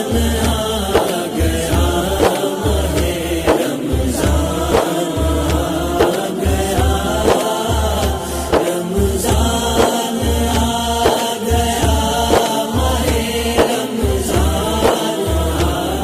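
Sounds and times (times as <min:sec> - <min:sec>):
layered wordless chanting voices: 0:00.0 - 0:16.0
low pulsing beat: 0:00.0 - 0:16.0.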